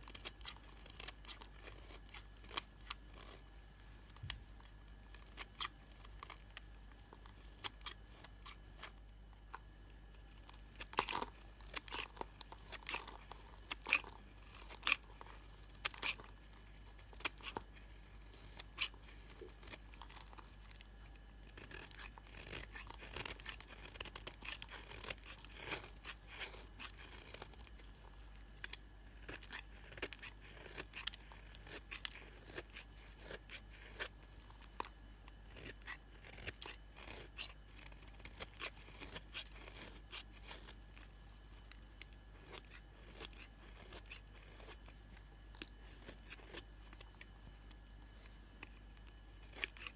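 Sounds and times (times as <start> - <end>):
blade crunching into soap: 0.0 - 49.9.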